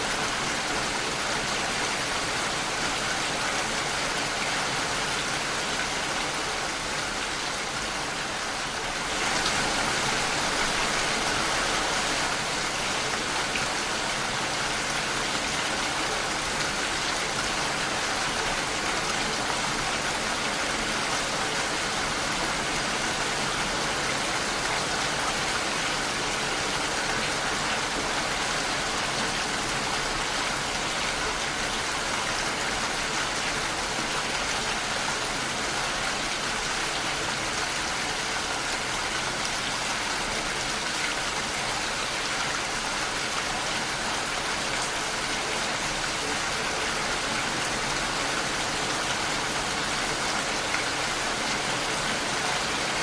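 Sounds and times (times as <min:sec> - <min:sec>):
rain on a window pane: 0:00.0 - 0:53.0.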